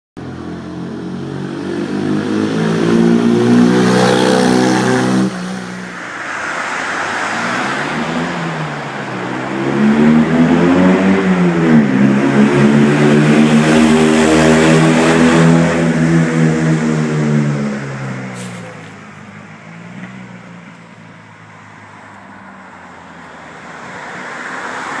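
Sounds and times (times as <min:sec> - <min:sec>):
car engine revving in tunnel: 0:00.2 - 0:25.0.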